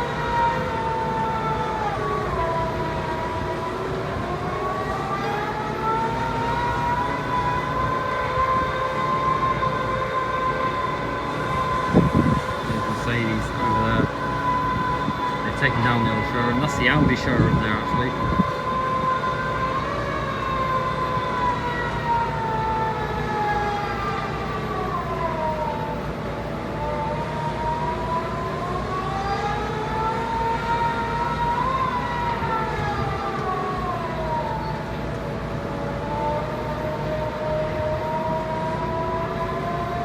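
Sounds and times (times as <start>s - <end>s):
emergency siren wailing: 0.0s - 40.0s.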